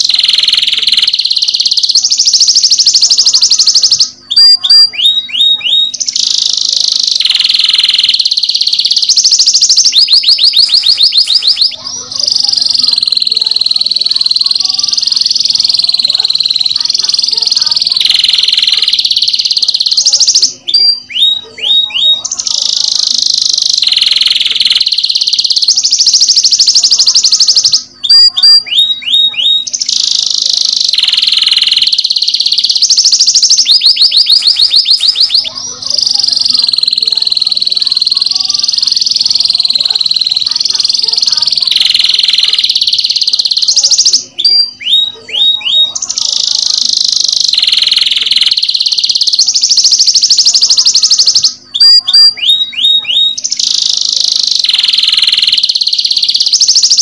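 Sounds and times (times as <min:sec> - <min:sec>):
canary trilling: 0:00.0 - 0:57.0
canary whistled notes: 0:00.0 - 0:57.0.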